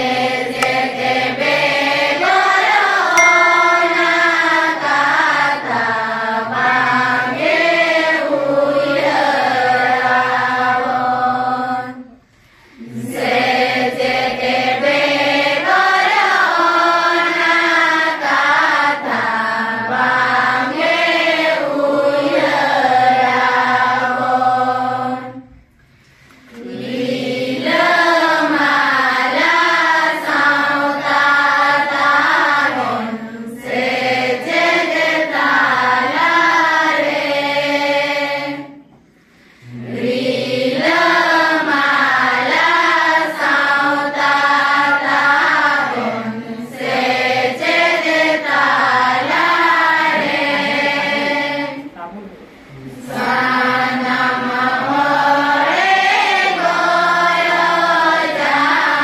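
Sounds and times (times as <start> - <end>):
group singing in unison: 0.0 - 52.0, 52.6 - 59.0.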